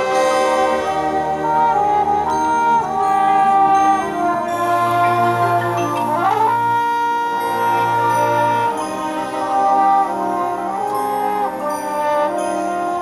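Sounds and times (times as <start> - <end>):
brass section playing chords: 0.0 - 13.0.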